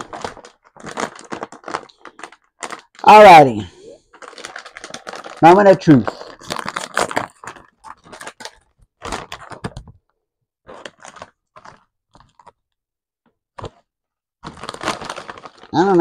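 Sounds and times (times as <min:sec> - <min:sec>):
plastic chip bag crinkling: 0:00.0 - 0:12.7, 0:13.5 - 0:16.0.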